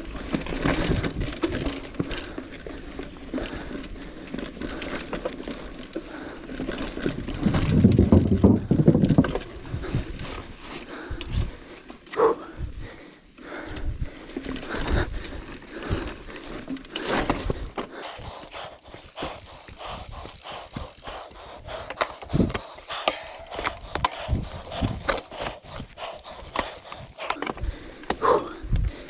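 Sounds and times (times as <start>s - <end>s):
mountain bike rattling and knocking: 0.0s - 12.2s, 13.4s - 27.9s
rider breathing hard: 0.1s - 29.0s.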